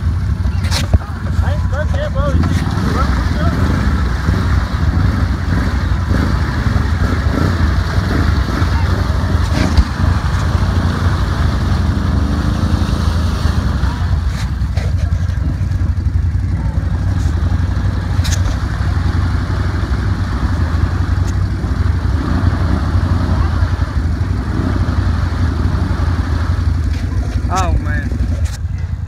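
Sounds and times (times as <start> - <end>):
atv engine under throttle: 0.0 - 29.0
wheels churning mud: 0.0 - 29.0.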